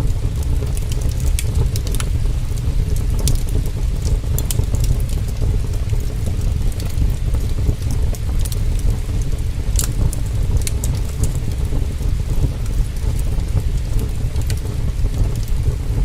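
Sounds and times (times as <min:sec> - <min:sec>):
wood fire pops and crackles: 0:00.0 - 0:16.0.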